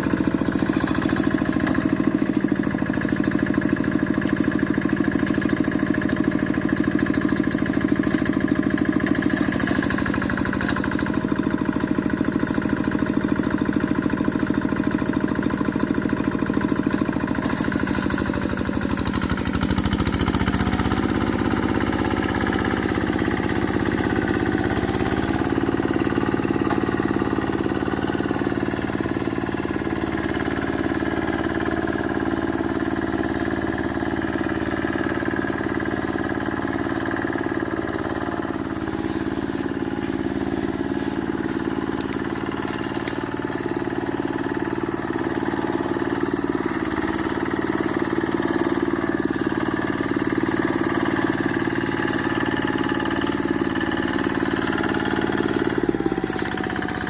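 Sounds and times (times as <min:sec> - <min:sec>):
hand tractor engine running: 0:00.0 - 0:57.0.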